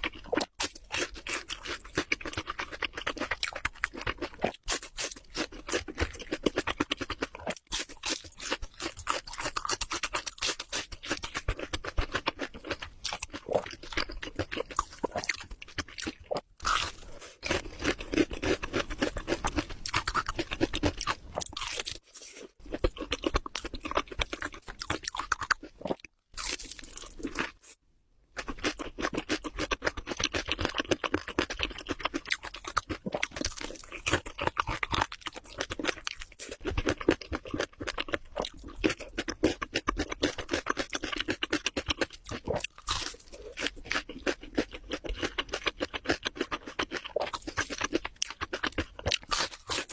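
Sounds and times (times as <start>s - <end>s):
crunchy chewing: 0.0s - 27.8s, 28.4s - 49.9s.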